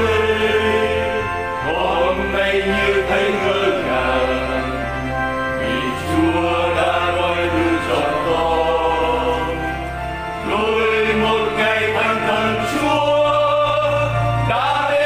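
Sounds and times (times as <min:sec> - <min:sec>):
instrumental accompaniment: 0:00.0 - 0:15.0
person singing a hymn: 0:00.0 - 0:15.0
steady bass: 0:00.0 - 0:15.0.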